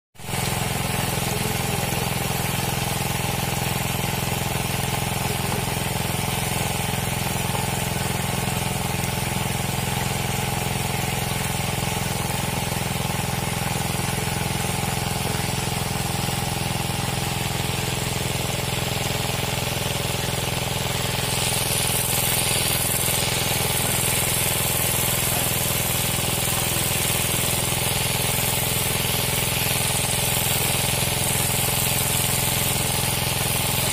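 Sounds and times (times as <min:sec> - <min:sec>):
motor humming: 0:00.2 - 0:33.9.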